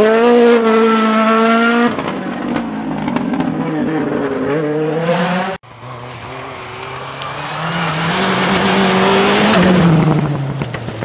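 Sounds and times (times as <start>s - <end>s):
rally car accelerating hard: 0.0s - 11.0s
rally car approaching: 0.0s - 11.0s.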